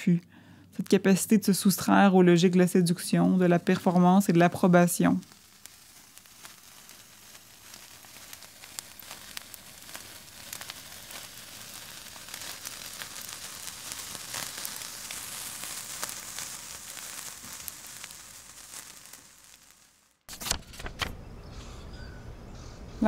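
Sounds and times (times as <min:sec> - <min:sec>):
sparklers fizzing and crackling: 0:00.8 - 0:20.8.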